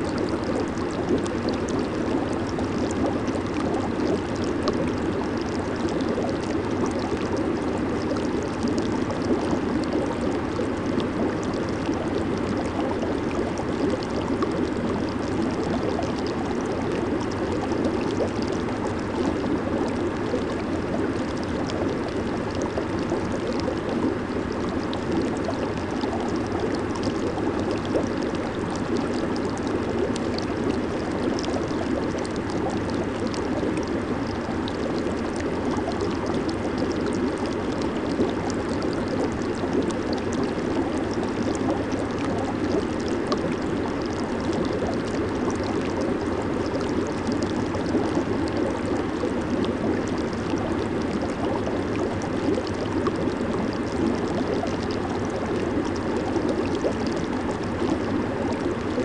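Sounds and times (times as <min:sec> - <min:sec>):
hot tub water bubbling: 0:00.0 - 0:59.0.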